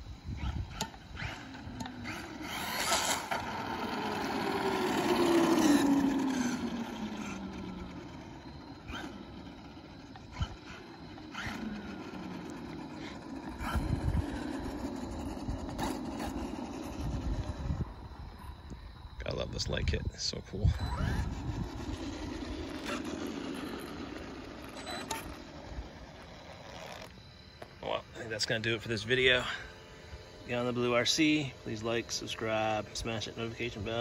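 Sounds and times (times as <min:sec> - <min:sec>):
rc truck motor whine: 0:00.0 - 0:34.0.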